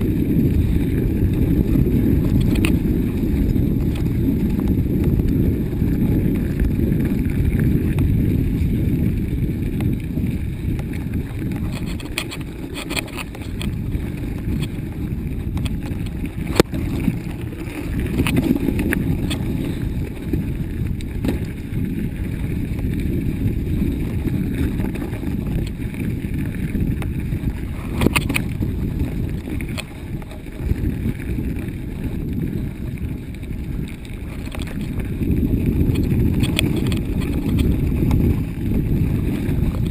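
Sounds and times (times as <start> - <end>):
bike clicks and knocks: 0.0 - 39.9
tyres over snow: 0.0 - 39.9
wind on microphone: 0.0 - 39.9.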